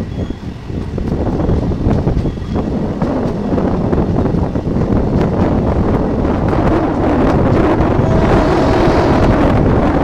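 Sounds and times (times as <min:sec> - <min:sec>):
train rumbling: 0:00.0 - 0:10.0
wind buffeting microphone: 0:00.0 - 0:10.0.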